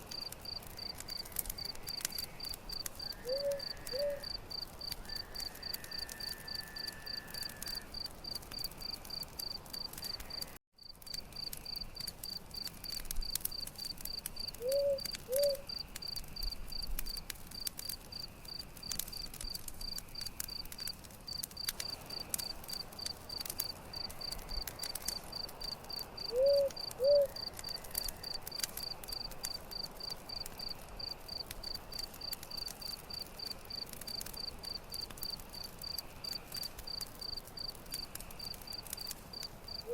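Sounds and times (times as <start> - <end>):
campfire crackling: 0.0 - 39.9
crickets chirping: 0.1 - 17.2, 21.3 - 39.9.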